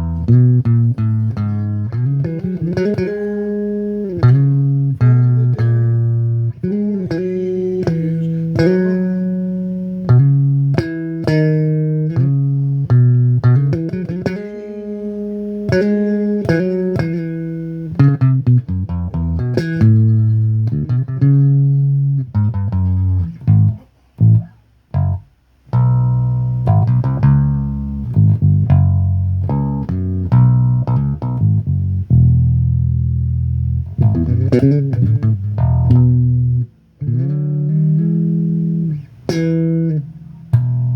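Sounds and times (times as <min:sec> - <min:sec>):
bass guitar plucked notes: 0:00.0 - 0:40.9.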